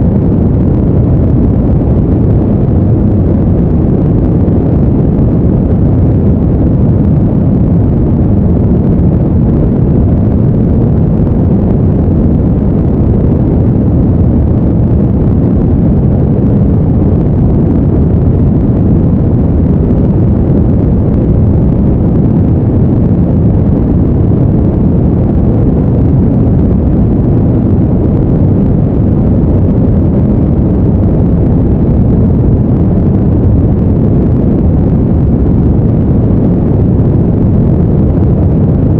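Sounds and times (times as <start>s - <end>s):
deep steady rumble: 0.0s - 38.9s.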